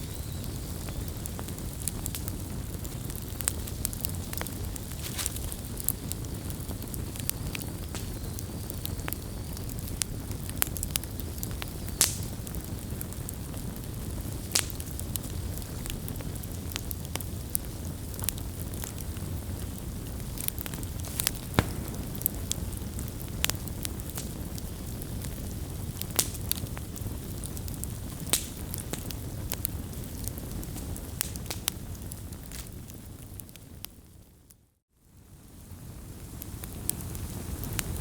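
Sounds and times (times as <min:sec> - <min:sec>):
wood campfire crackling: 0:00.0 - 0:38.0.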